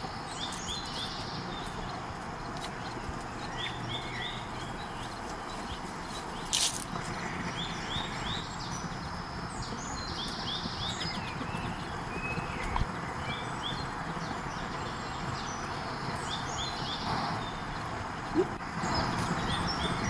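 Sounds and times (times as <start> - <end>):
outdoor background hiss: 0.0 - 20.0
small birds singing: 0.0 - 20.0.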